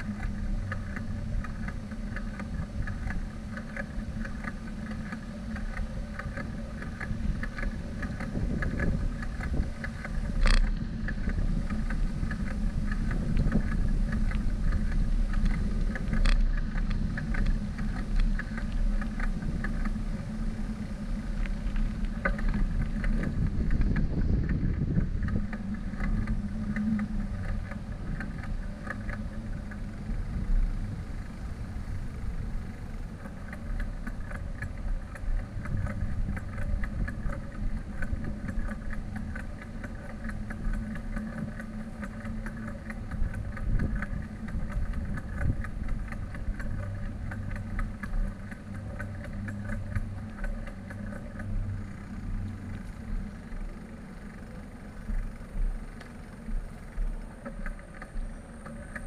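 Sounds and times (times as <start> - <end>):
bicycle rolling over pavement: 0.0 - 59.0
small rattles and clicks: 0.0 - 59.0.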